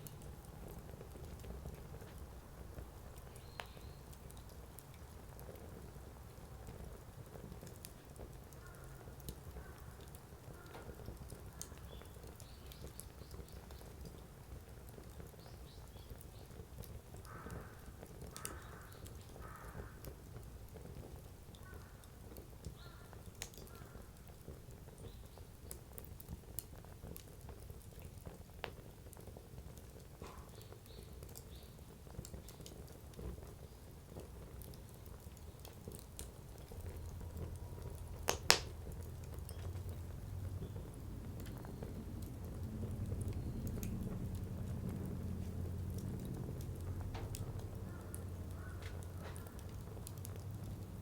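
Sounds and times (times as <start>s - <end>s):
firewood crackling and popping: 0.0s - 51.0s.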